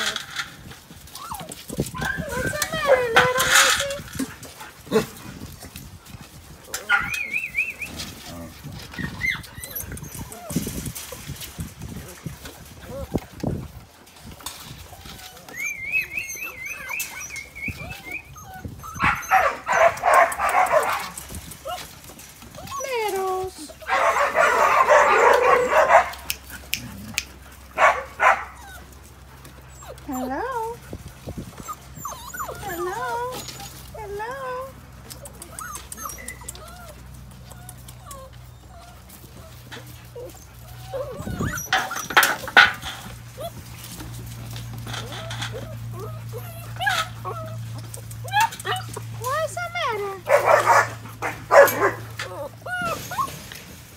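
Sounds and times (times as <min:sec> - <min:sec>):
puppy whining: 0:00.0 - 0:05.0, 0:06.7 - 0:11.4, 0:12.0 - 0:13.6, 0:14.2 - 0:53.8
puppies yapping: 0:00.0 - 0:53.9.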